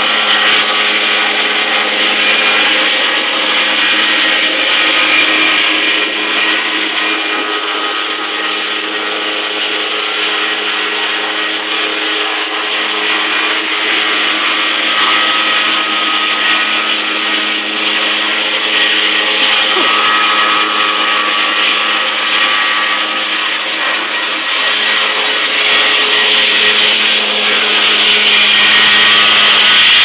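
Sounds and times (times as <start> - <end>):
small engine running with whine: 0.0 - 30.0.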